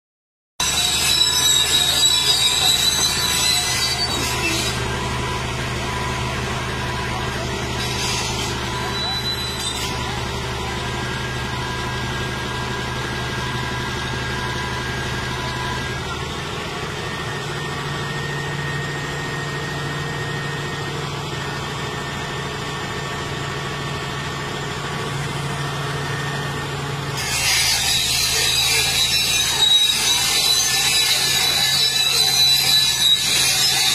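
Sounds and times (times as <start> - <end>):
bulldozer diesel engine running: 0.6 - 33.9
loud harsh noise: 0.6 - 33.9.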